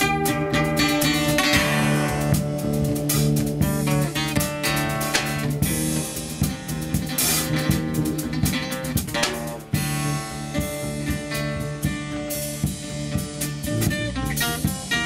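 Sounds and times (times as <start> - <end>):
drum kit: 0.0 - 15.0
plucked bass notes: 0.0 - 15.0
plucked strings: 0.0 - 15.0.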